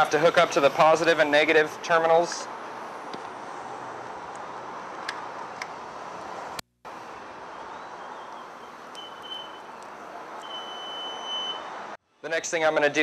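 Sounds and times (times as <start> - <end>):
garage background noise: 0.0 - 13.0.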